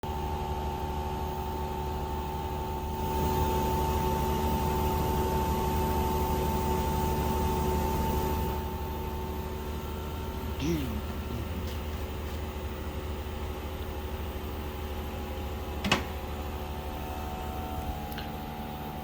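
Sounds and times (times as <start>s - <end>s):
air conditioner running: 0.0s - 19.0s.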